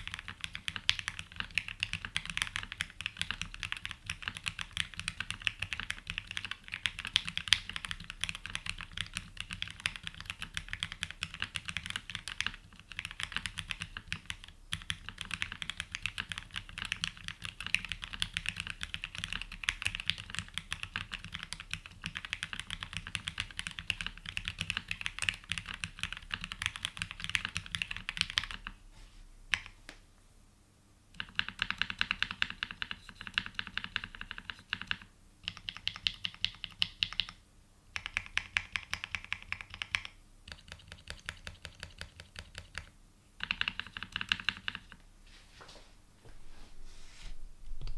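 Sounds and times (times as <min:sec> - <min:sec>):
typing on mechanical keyboard: 0:00.0 - 0:28.8, 0:31.2 - 0:37.4, 0:38.0 - 0:45.0.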